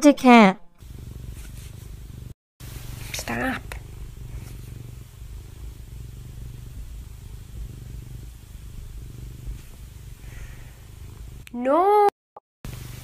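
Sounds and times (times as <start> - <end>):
cat purring: 0.8 - 11.4.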